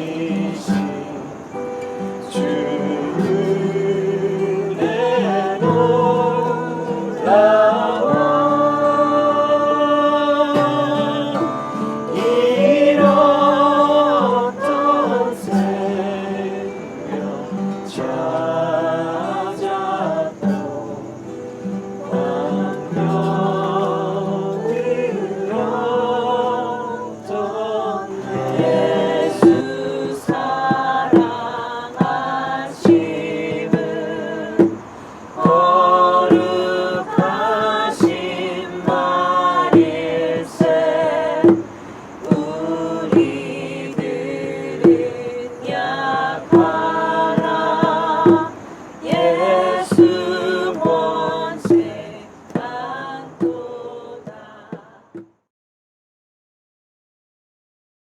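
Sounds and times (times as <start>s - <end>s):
strummed acoustic guitar: 0.0s - 55.3s
group singing worship song: 0.0s - 55.4s.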